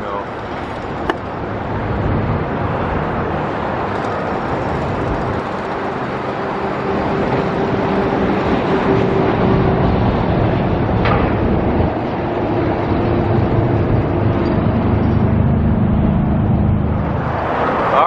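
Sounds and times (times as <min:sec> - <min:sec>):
engine hum: 0:00.0 - 0:18.0
road vehicles going by: 0:00.0 - 0:18.0.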